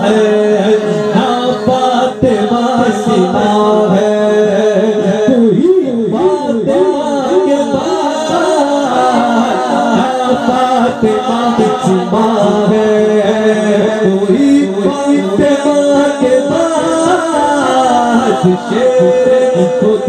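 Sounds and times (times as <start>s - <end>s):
man singing through microphone: 0.0s - 20.0s.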